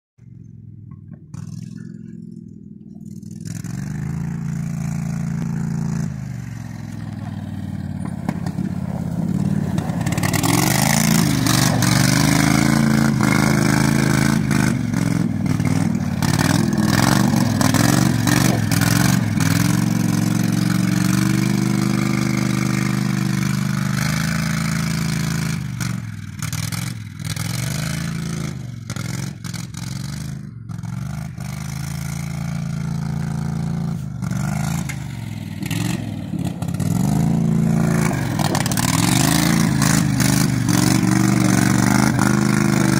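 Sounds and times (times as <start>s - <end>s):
utility vehicle engine revving: 0.2s - 42.9s.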